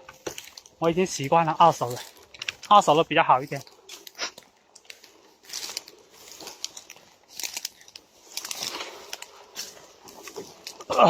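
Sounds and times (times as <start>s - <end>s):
dry vegetation rustling and crackling: 0.0s - 11.0s.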